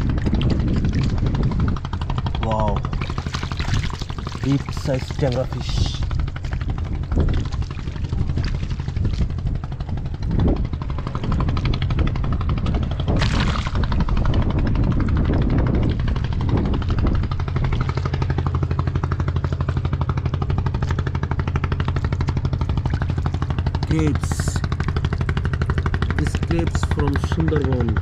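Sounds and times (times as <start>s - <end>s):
engine chugging: 0.0s - 28.0s.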